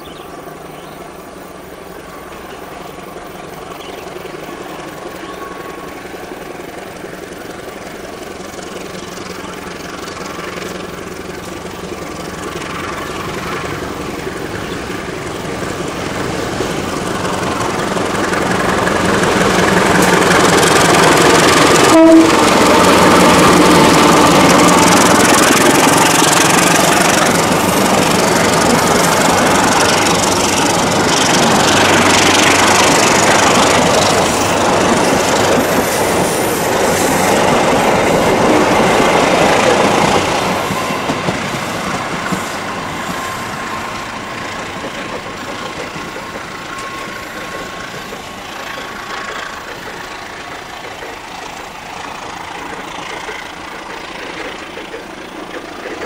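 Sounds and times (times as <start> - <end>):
passenger train passing: 0.0 - 56.0
train wheels on rails: 0.0 - 56.0.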